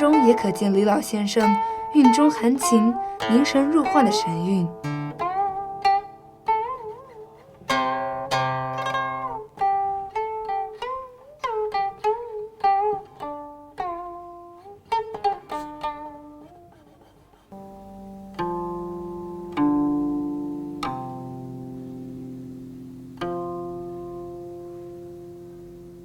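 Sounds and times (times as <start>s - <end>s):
zither plucked notes: 0.0s - 26.0s.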